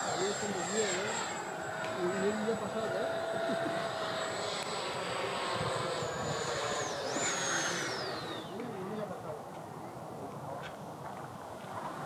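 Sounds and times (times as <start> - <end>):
electric ducted fan whining: 0.0 - 10.3.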